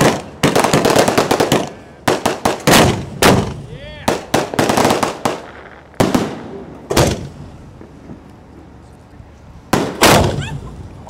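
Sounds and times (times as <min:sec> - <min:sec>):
fireworks sharp bangs: 0:00.0 - 0:08.3, 0:09.6 - 0:11.0.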